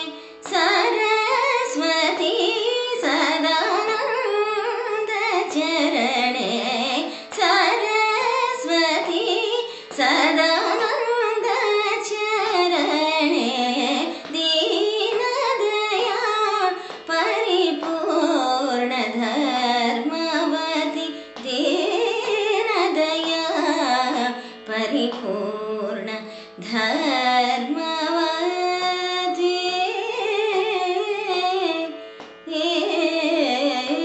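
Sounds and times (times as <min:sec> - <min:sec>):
violin: 0:00.0 - 0:34.0
woman singing: 0:00.0 - 0:34.0.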